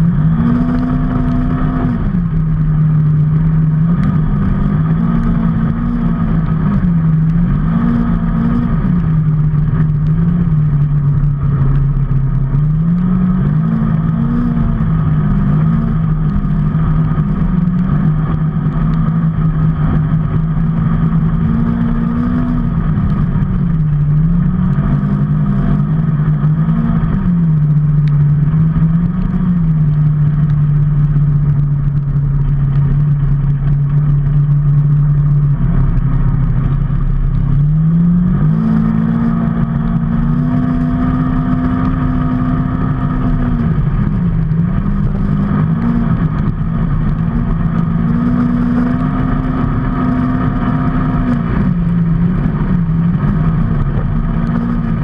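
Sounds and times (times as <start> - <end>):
steady rushing noise: 0.0 - 55.0
vehicle engine running: 0.0 - 55.0.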